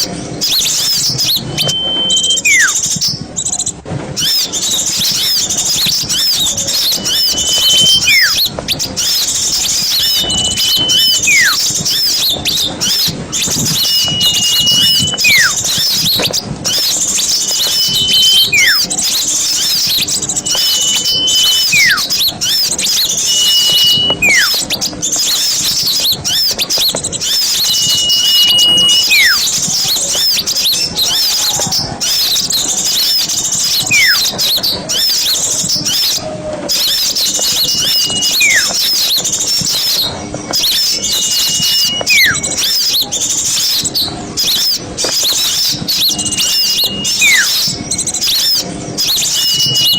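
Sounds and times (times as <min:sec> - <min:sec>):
bird whistle slurring downward: 0:00.0 - 0:03.6, 0:04.2 - 0:49.9
songbirds chirping: 0:00.0 - 0:49.9.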